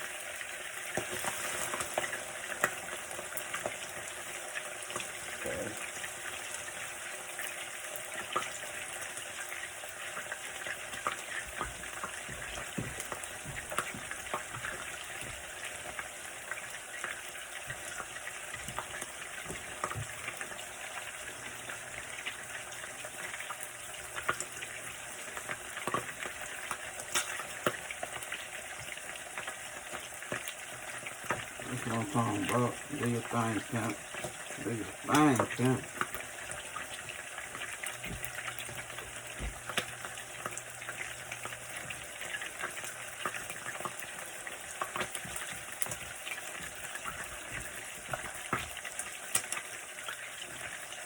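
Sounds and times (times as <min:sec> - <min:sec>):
grease sizzling: 0:00.0 - 0:51.0.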